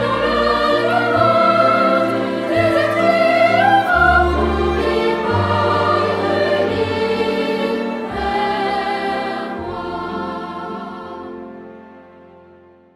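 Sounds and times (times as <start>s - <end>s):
choral singing sustained chords: 0.0s - 12.9s.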